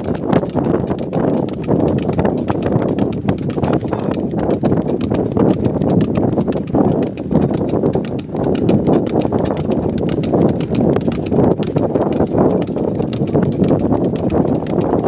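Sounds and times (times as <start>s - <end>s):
hooves clip-clopping on pavement: 0.0s - 15.0s
steady rumble: 0.0s - 15.0s.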